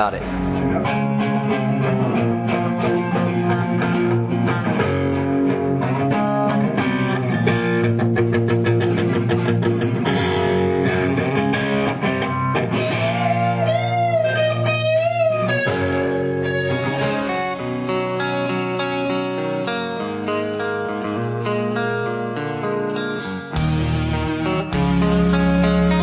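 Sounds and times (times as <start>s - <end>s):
electric guitar: 0.0s - 26.0s.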